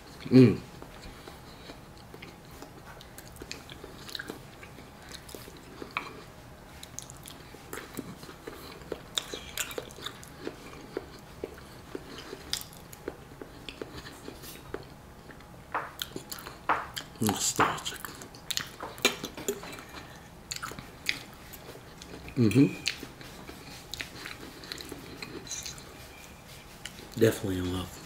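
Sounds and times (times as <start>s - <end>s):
person chewing food: 0.0s - 27.2s.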